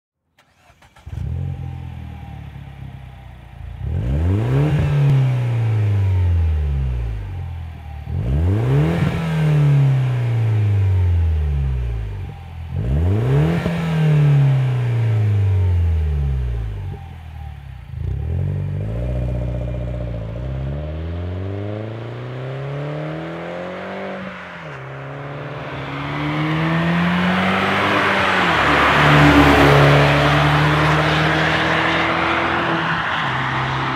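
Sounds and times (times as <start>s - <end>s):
car engine idling and revving: 0.4s - 33.9s
road and wind noise: 0.4s - 33.9s.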